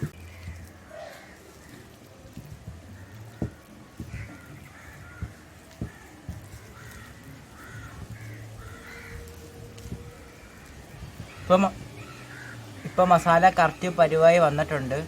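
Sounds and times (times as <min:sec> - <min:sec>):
bird cawing: 0:00.0 - 0:02.0, 0:02.9 - 0:14.0.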